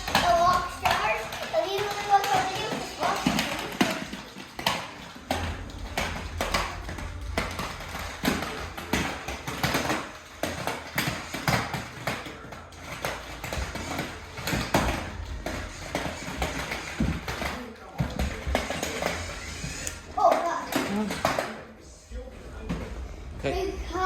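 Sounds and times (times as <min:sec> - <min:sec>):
toy car rattling on floor: 0:00.0 - 0:21.7.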